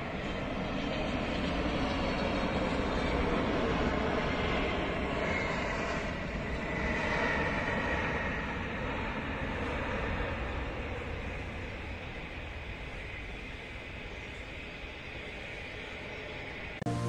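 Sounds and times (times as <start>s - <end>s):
jet engines rushing with high whine: 0.0s - 17.0s.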